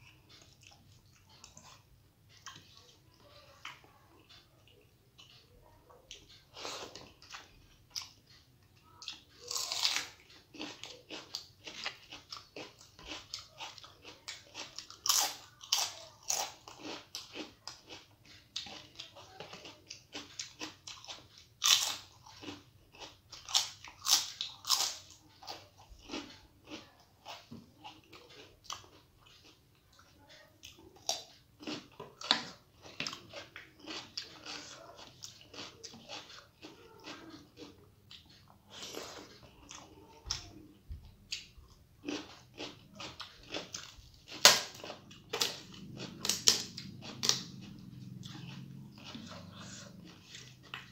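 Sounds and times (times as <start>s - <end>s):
crisp crunchy chewing: 9.0s - 40.7s, 41.3s - 50.9s.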